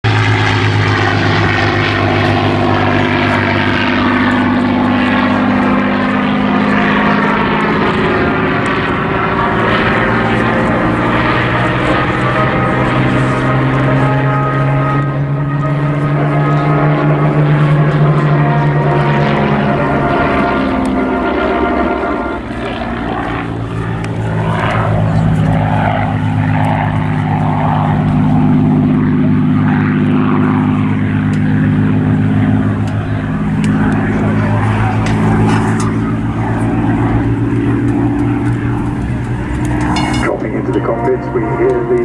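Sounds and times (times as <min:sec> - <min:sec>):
piston aircraft engines droning: 0:00.0 - 0:42.0.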